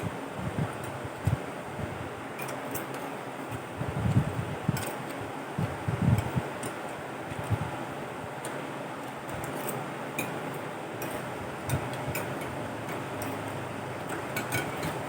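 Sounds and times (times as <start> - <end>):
electric fan hiss: 0.0 - 15.0.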